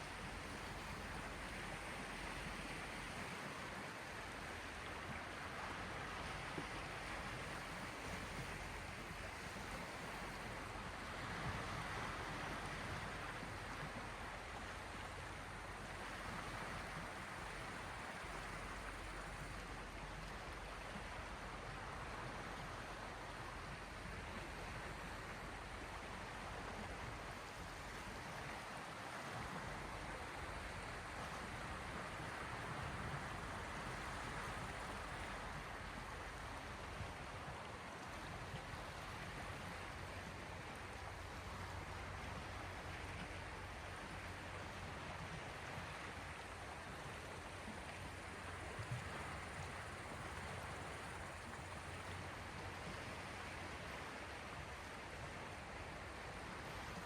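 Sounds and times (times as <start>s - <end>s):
small sea waves washing: 0.0s - 57.0s.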